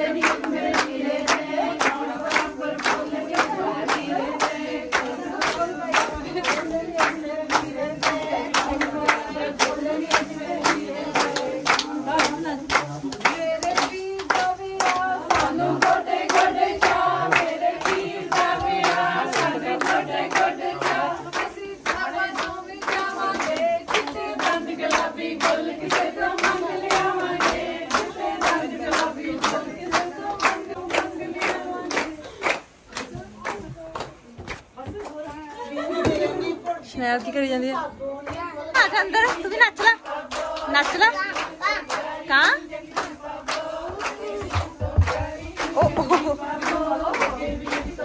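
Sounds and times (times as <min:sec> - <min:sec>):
people clapping in time: 0:00.0 - 0:37.4, 0:38.2 - 0:48.0
women singing in unison: 0:00.0 - 0:48.0.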